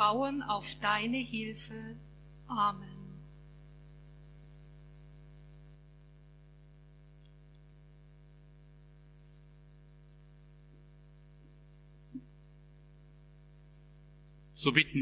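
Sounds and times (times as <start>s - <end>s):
electrical mains hum: 0.0s - 15.0s
high steady whine: 0.0s - 15.0s.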